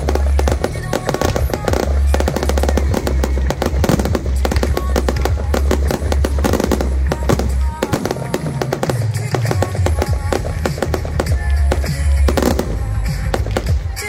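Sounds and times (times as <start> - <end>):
fireworks popping and crackling: 0.0 - 14.0
music with deep bass: 0.0 - 14.0.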